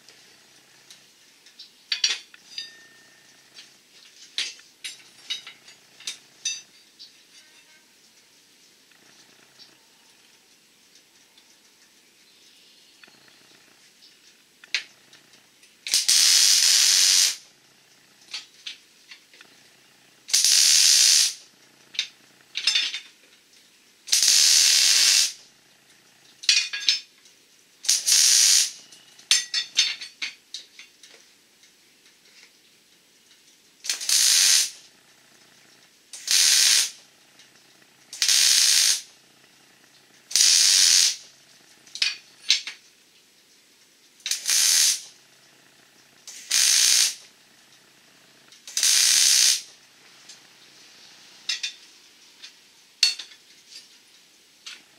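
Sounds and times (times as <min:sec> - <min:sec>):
welding arc crackling hiss: 0:00.0 - 0:07.3, 0:07.9 - 0:12.0, 0:12.9 - 0:54.9.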